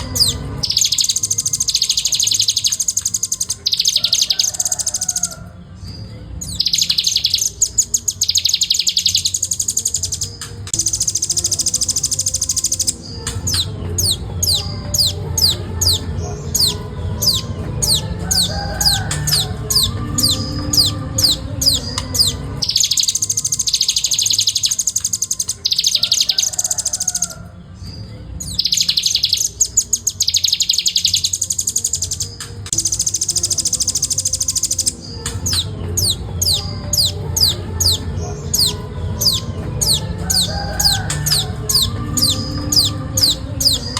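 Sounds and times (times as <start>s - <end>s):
fast chattering bird trills: 0.0s - 5.4s, 6.4s - 27.3s, 28.4s - 43.9s
nuthatch calling: 0.0s - 5.5s, 6.4s - 27.4s, 28.4s - 43.9s.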